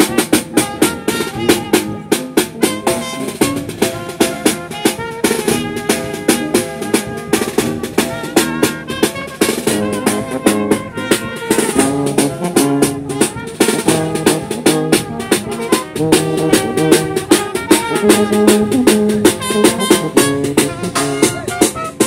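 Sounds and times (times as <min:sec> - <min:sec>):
brass band playing: 0:00.0 - 0:22.0
drum beat: 0:00.0 - 0:22.0.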